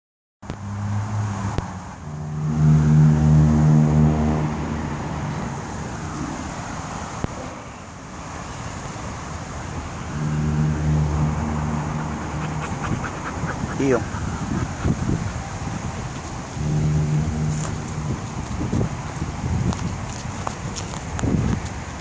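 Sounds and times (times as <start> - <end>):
road traffic: 0.4 - 22.0
low engine hum: 0.5 - 7.8, 9.5 - 22.0.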